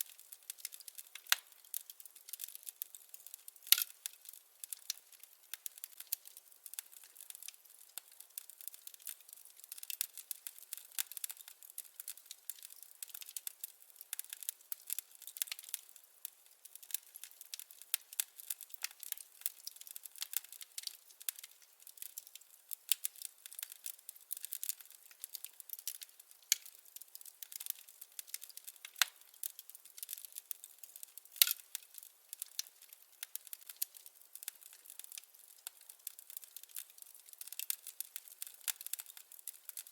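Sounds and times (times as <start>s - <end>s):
firewood crackling in fireplace: 0.0s - 39.9s.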